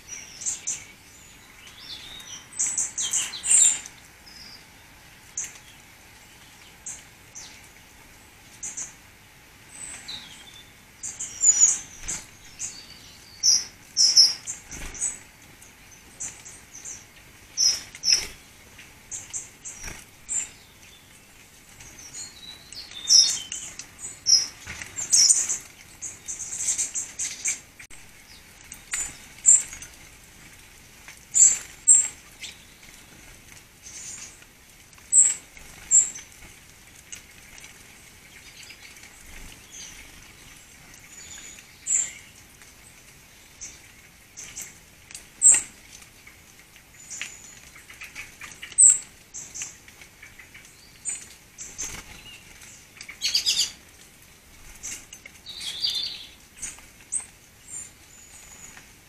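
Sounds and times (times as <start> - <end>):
songbirds giving high-pitched calls: 0.0 - 59.0.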